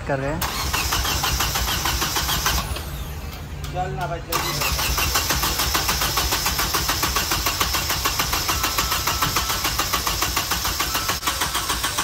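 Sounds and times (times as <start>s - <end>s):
car engine cranking on starter: 0.3s - 3.4s, 4.3s - 12.0s.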